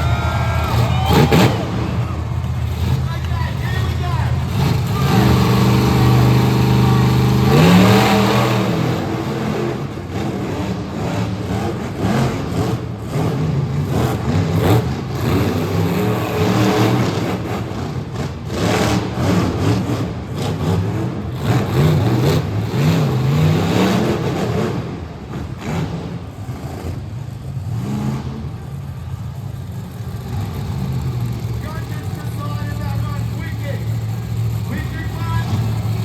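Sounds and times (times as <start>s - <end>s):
engine crackling: 0.0s - 23.6s, 24.7s - 36.0s
monster truck engines revving: 0.0s - 36.0s.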